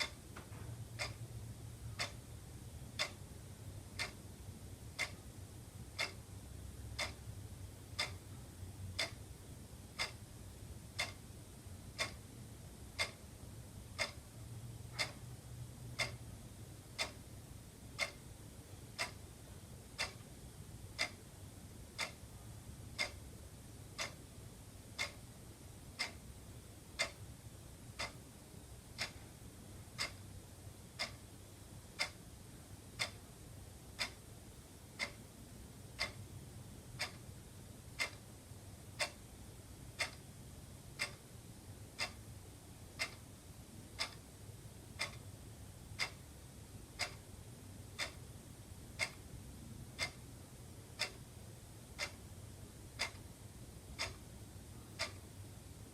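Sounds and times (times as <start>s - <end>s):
wall clock ticking: 0.0s - 55.9s.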